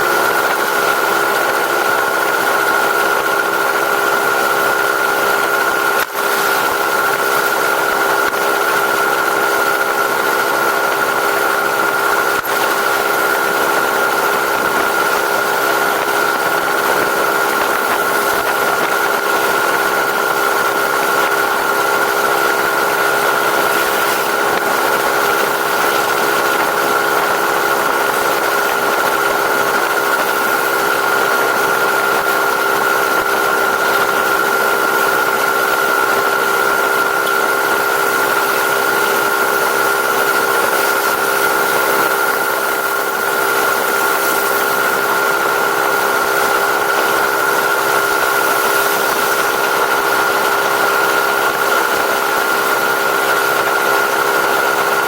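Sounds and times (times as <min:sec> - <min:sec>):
engine running steadily: 0:00.0 - 0:55.0
steady whine: 0:00.0 - 0:55.0.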